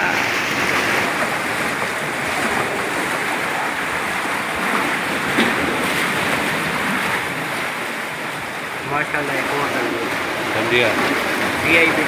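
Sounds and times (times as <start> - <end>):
sea surf breaking on rocks: 0.0 - 12.0.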